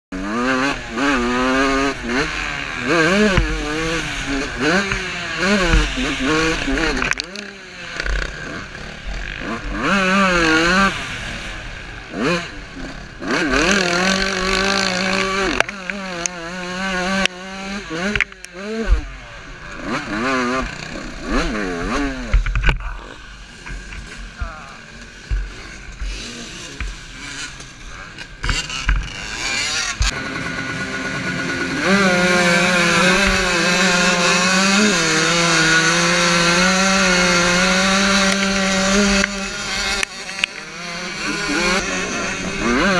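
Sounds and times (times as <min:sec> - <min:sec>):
motocross bike engine revving: 0:00.1 - 0:42.9.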